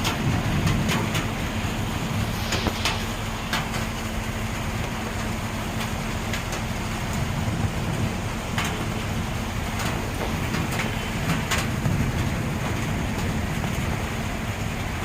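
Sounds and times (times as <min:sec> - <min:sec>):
heavy rain: 0:00.0 - 0:15.0
low rumble: 0:00.0 - 0:15.0.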